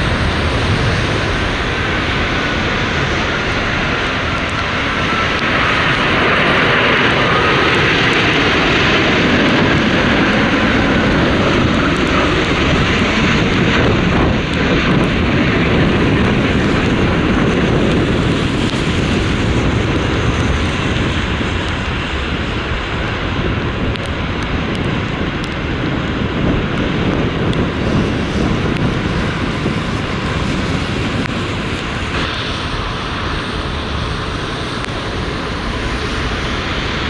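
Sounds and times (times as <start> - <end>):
jet airliner flying past: 0.0 - 37.0.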